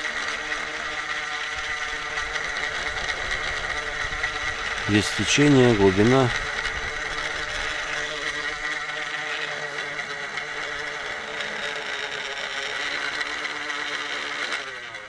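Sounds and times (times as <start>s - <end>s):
fishing reel whirring: 0.0s - 15.0s.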